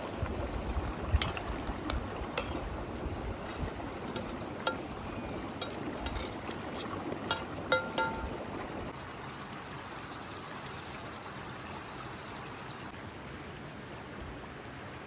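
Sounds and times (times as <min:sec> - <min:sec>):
river water flowing: 0:00.0 - 0:12.9.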